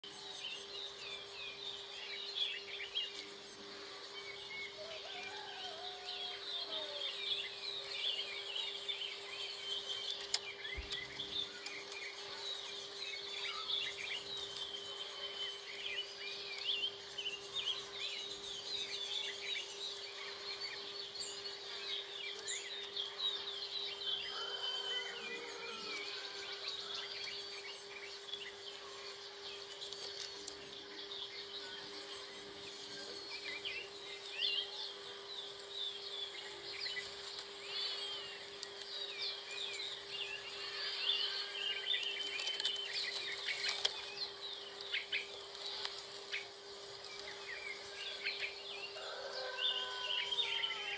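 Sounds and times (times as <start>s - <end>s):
small birds chirping: 0.0s - 50.9s
steady hum: 0.0s - 50.9s.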